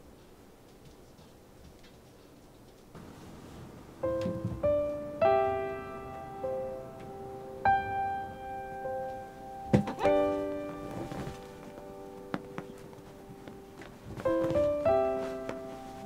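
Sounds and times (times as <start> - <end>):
soft piano notes and chords: 3.0 - 16.0.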